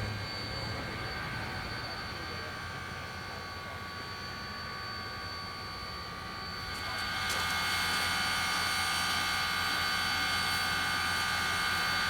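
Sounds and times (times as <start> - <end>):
steam train high-pitched tones: 0.0 - 12.0
train low rumble: 0.0 - 12.0.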